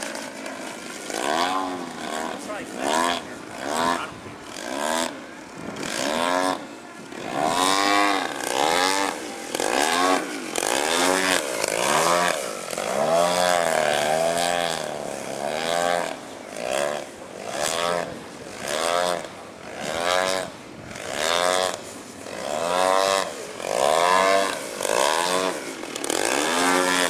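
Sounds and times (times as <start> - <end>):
model airplane engine and propeller: 0.0 - 27.0.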